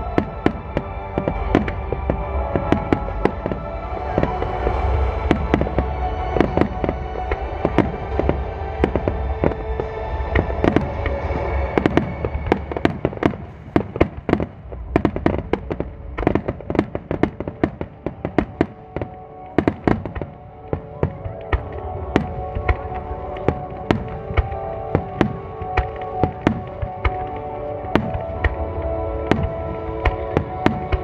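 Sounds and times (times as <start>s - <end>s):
fireworks bangs: 0.0s - 31.0s
music: 0.0s - 31.0s.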